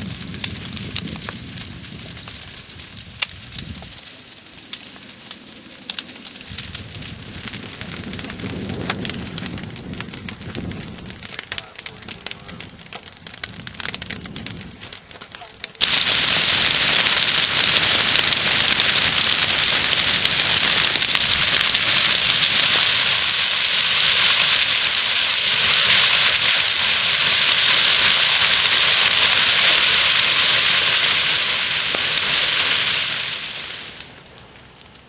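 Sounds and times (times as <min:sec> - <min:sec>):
dry grass fire crackling: 0:00.0 - 0:35.0.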